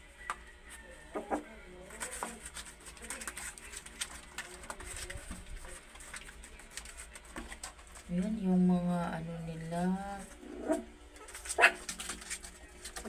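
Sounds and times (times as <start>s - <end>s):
paws scratching on cardboard: 1.1s - 8.7s, 9.6s - 13.0s.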